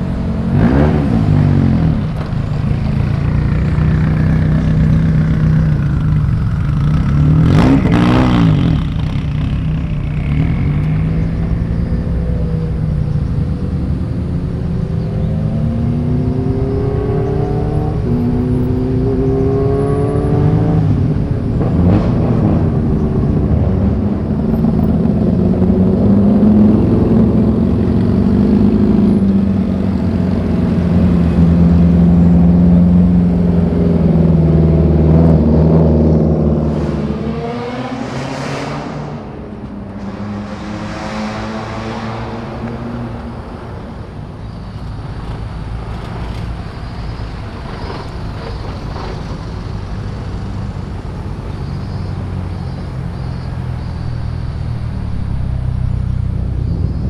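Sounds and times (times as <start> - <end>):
car engine revving up: 0.0 - 44.7, 48.0 - 57.0
cars passing close by: 0.0 - 57.0.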